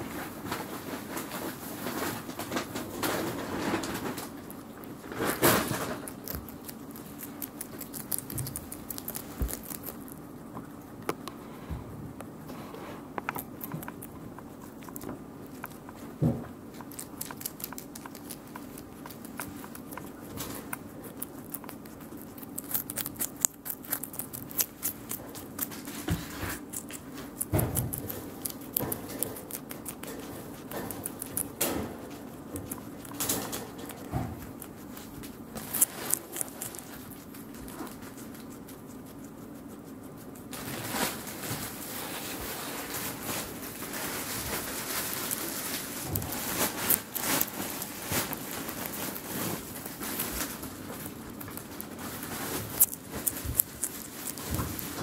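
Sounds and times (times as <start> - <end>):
guinea pigs crunching vegetables: 0.0 - 55.0
patter of small feet: 0.0 - 55.0
steady low hum: 0.0 - 55.0.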